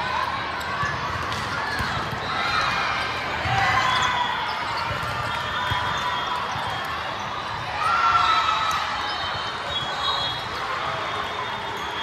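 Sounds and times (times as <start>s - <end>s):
noise of volleyball match: 0.0s - 12.0s.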